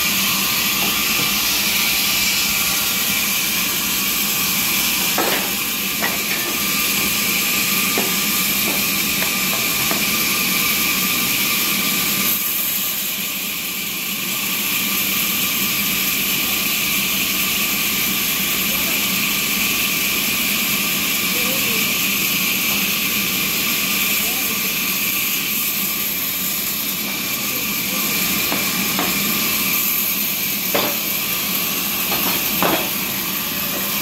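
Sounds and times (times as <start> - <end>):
sawmill machinery hissing: 0.0 - 34.0.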